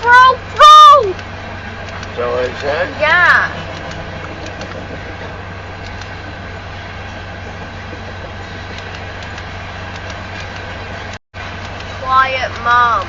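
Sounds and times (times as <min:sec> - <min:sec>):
freight train rolling past: 0:01.2 - 0:13.0.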